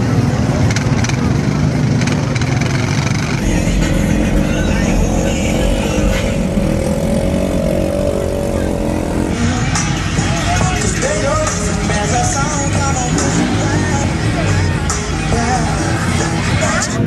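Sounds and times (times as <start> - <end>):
people's voices: 0.0 - 17.0
truck engines rumbling: 0.0 - 17.0.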